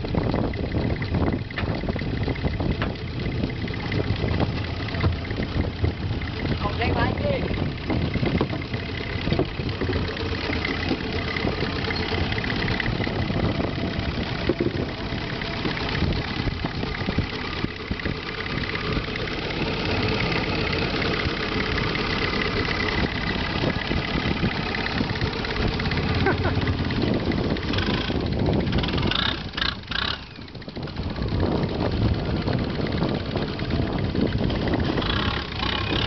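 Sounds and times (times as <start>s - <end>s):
boat engine running steadily: 0.0s - 36.0s.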